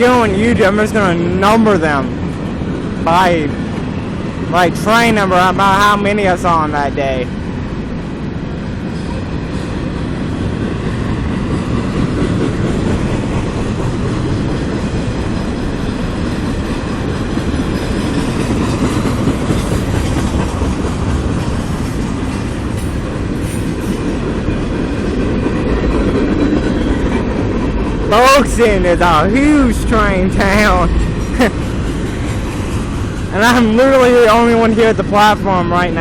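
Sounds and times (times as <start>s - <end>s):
steel train wheels on rail: 0.0s - 36.0s.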